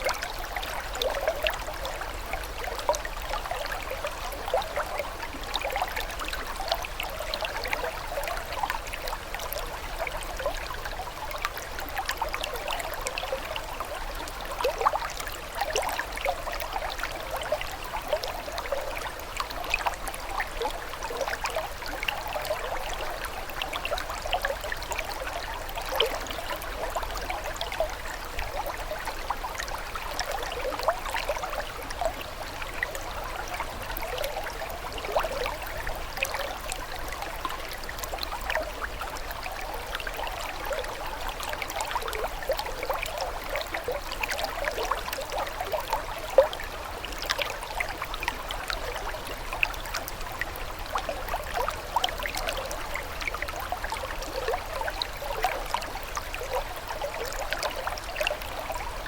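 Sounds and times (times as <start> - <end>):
stream trickling and burbling: 0.0 - 59.0.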